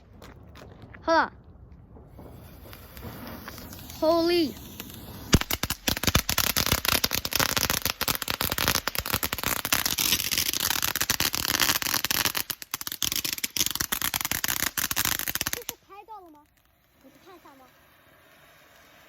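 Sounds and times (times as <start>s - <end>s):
firework fountain crackling: 2.1s - 19.0s
sharp crack: 2.2s - 17.8s.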